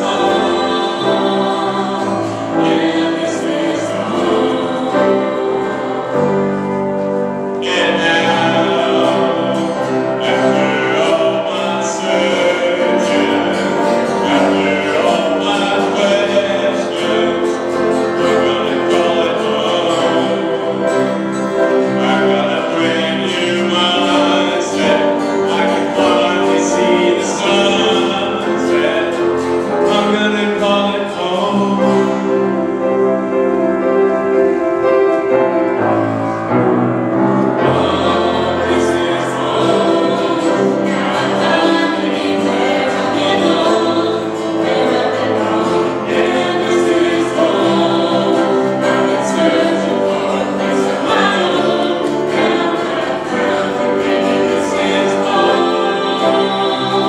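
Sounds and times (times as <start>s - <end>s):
group of people singing: 0.0s - 36.5s, 37.1s - 57.0s
acoustic guitars: 0.0s - 57.0s.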